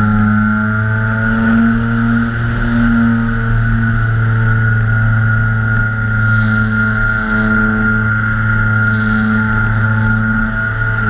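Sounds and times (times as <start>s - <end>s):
model plane motors droning: 0.0s - 11.0s.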